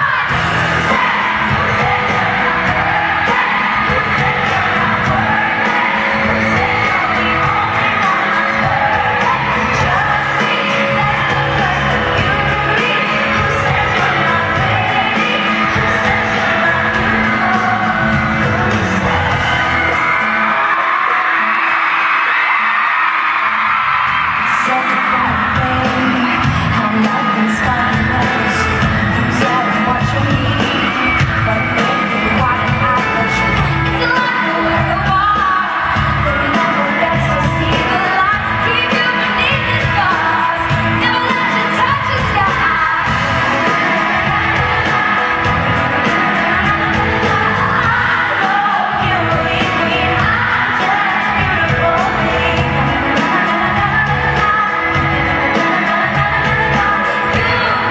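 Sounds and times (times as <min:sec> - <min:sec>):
woman singing: 0:00.0 - 0:20.9, 0:23.9 - 0:57.9
live pop band: 0:00.0 - 0:57.9.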